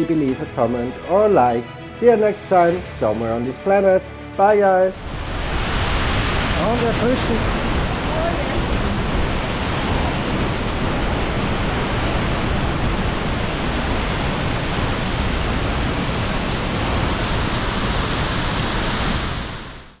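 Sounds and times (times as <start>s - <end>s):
waterfall rushing: 2.1s - 20.0s.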